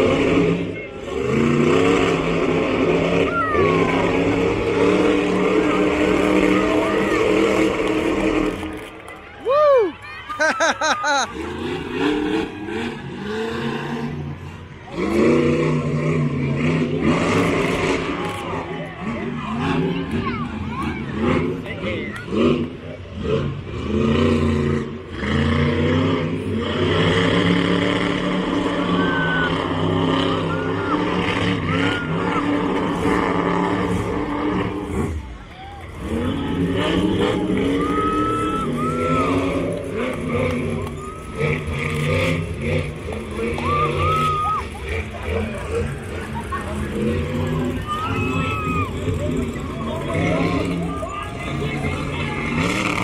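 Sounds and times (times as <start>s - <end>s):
monster truck engine revving: 0.0s - 53.0s.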